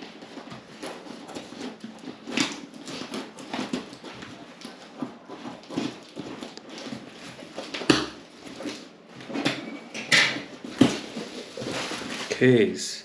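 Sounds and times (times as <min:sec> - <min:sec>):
cardboard box rustling and scraping: 0:00.0 - 0:12.4.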